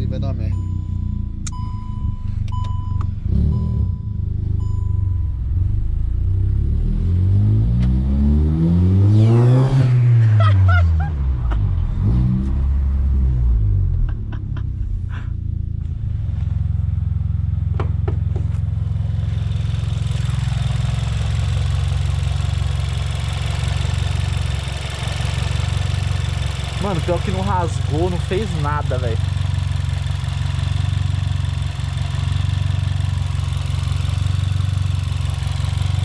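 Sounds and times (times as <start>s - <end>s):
car engine revving: 2.5s - 4.9s, 5.6s - 36.0s.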